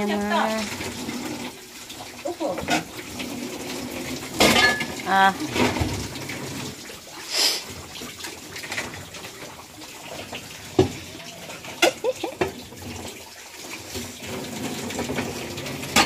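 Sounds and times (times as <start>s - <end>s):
tap water running into sink: 0.0s - 16.0s.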